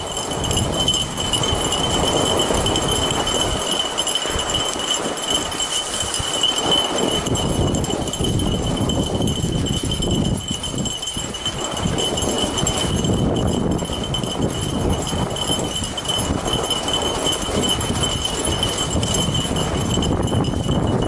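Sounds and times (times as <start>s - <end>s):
bike rolling on snow: 0.0s - 21.0s
dogs' feet pattering on snow: 0.0s - 21.0s
harness hardware jingling: 0.0s - 21.0s
thin steady high tone: 0.0s - 21.0s.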